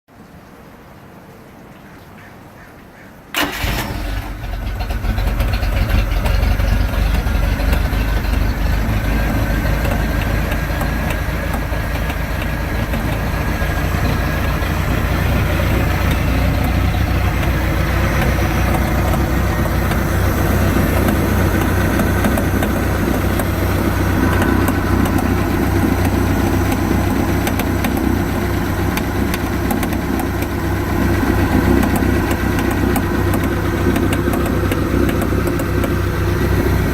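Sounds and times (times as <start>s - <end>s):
boat engine starting and idling: 3.3s - 36.9s
rapid clicking in engine: 3.4s - 36.9s.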